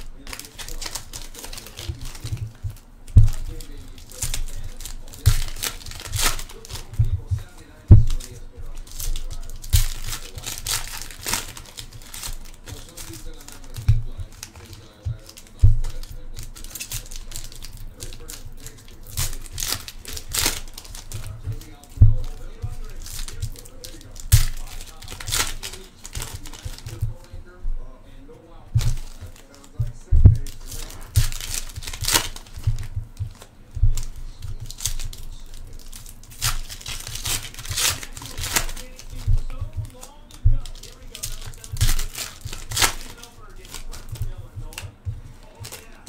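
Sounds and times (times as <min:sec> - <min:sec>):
cards clicking and rustling: 0:00.0 - 0:46.0
dull handling thumps: 0:00.0 - 0:46.0
foil wrappers tearing and crinkling: 0:00.0 - 0:46.0.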